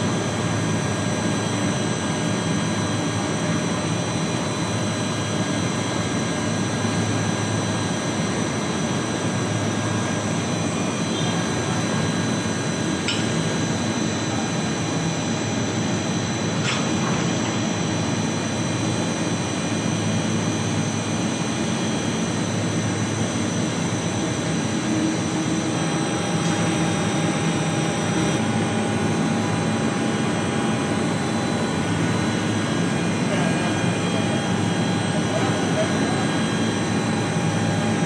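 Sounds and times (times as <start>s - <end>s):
machine drone with whining tones: 0.0s - 38.0s.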